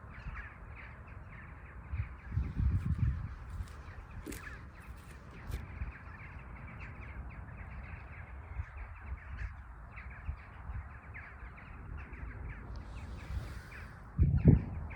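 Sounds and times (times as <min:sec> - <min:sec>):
crows cawing: 0:00.0 - 0:01.7, 0:03.6 - 0:13.9.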